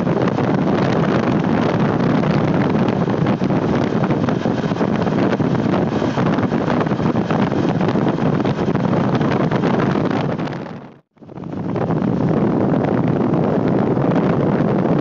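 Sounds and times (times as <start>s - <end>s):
motorcycle engine and road noise: 0.0s - 15.0s
wind buffeting microphone: 0.0s - 15.0s.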